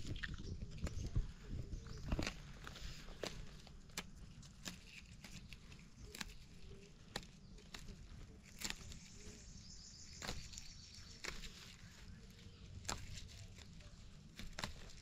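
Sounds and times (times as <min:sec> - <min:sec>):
plant shoots snapping: 0:00.0 - 0:09.4, 0:10.1 - 0:15.0
leaf rustle: 0:00.0 - 0:15.0.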